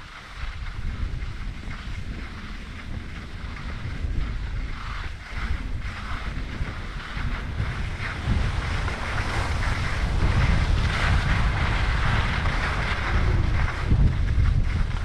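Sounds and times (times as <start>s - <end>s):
skis sliding over snow: 0.0s - 15.0s
wind buffeting microphone: 0.0s - 15.0s.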